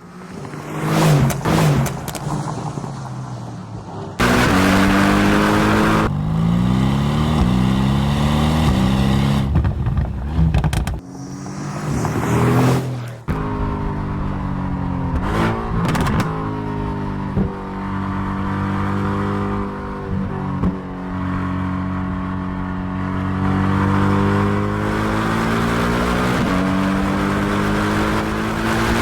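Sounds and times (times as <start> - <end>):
car engine accelerating: 4.2 - 29.0.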